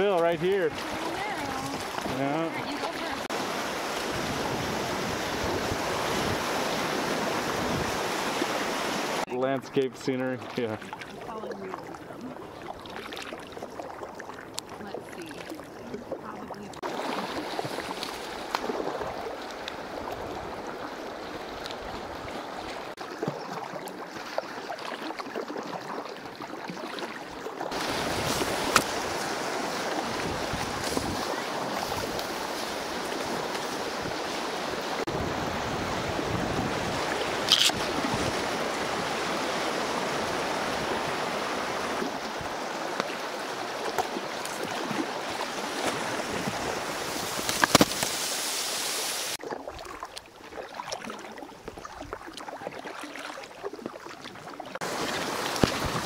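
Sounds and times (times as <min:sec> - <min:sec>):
lapping water: 0:00.0 - 0:03.4, 0:09.5 - 0:35.1, 0:36.6 - 0:48.1, 0:49.3 - 0:56.0
fast shallow water rushing: 0:00.0 - 0:56.0
paddle splashes: 0:00.0 - 0:56.0.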